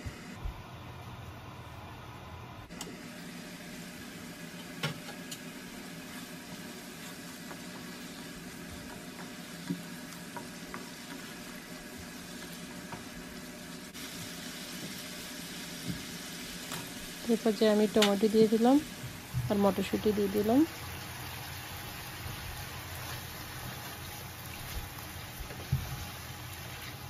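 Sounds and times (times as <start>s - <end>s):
paste sizzling in frying pan: 3.0s - 27.0s.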